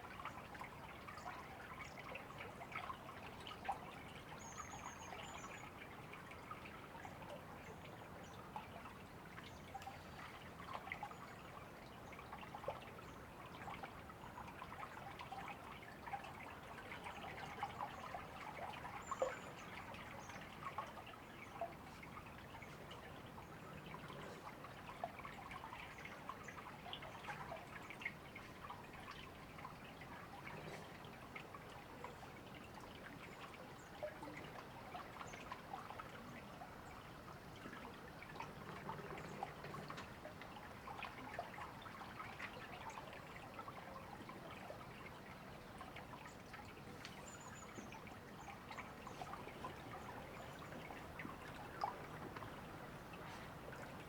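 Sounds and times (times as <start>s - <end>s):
river trickling over stones: 0.0s - 54.0s.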